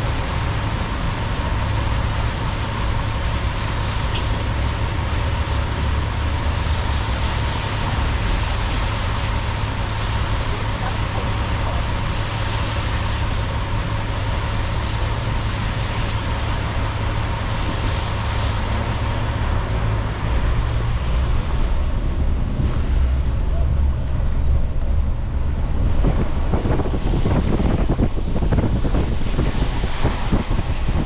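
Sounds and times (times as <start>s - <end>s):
car engine and tyre rumble: 0.0s - 31.0s
road noise hiss: 0.0s - 31.0s.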